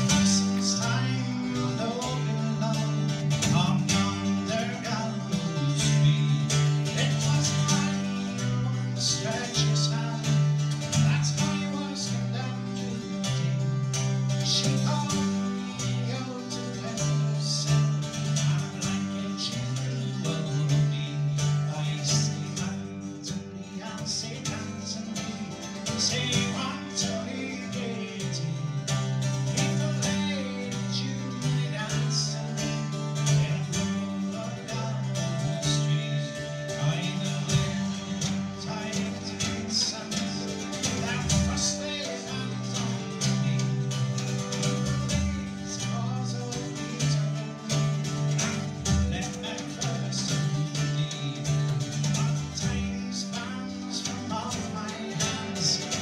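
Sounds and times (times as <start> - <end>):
bouzouki strumming: 0.0 - 56.0
folk band playing live: 0.0 - 56.0.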